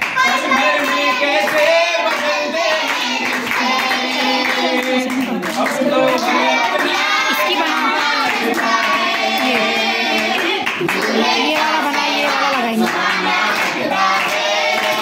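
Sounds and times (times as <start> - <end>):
women and girls singing: 0.0 - 5.1, 5.8 - 15.0
hands clapping: 0.0 - 15.0.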